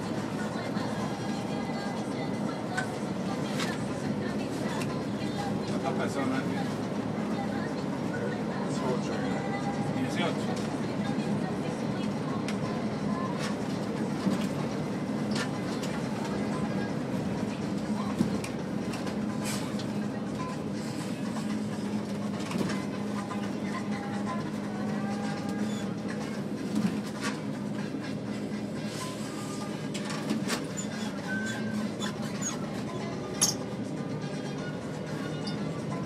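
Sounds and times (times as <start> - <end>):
vehicle engine hum: 0.0 - 36.0.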